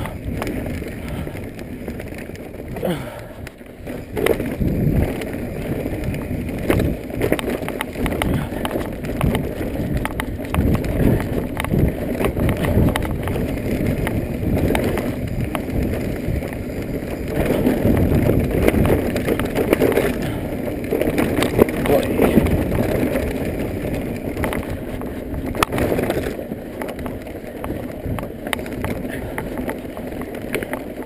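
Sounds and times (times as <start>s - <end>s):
bike knocking and rattling: 0.0s - 31.0s
bike tyres rumbling on dirt: 0.0s - 31.0s
wind buffeting microphone: 0.0s - 31.0s.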